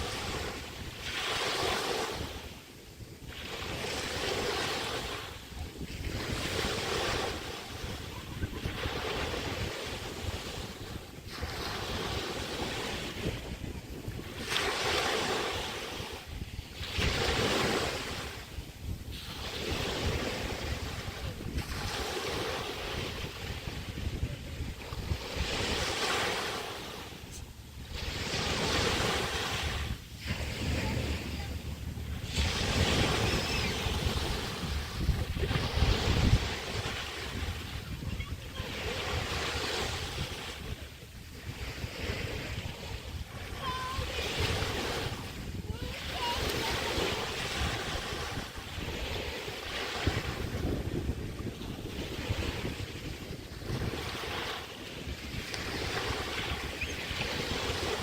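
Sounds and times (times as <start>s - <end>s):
waves breaking on beach: 0.0s - 58.0s
wind buffeting microphone: 0.0s - 58.0s.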